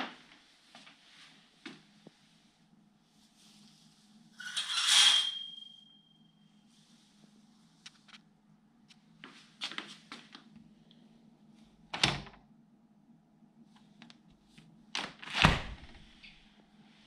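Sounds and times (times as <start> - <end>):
low steady hum: 0.2 - 17.0.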